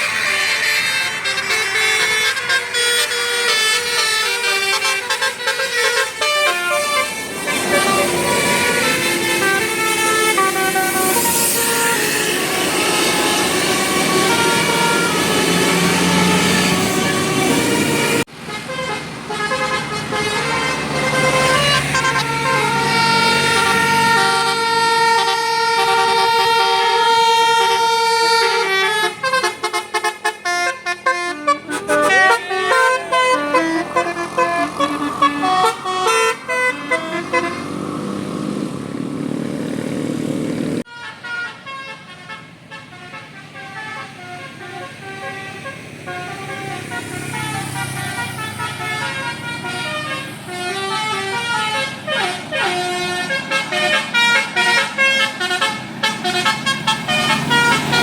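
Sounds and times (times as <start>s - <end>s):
multi-tone bus horn melody: 0.0s - 58.0s.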